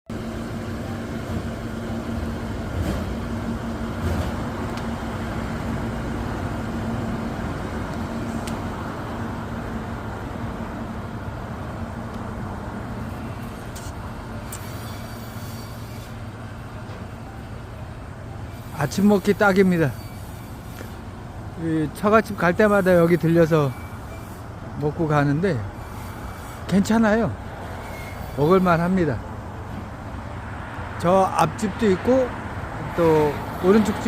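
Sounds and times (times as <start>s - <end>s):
road traffic noise: 0.1s - 34.0s.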